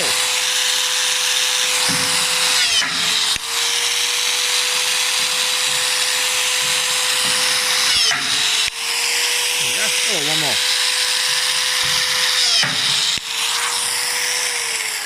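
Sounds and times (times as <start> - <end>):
electric drill running: 0.0 - 15.0.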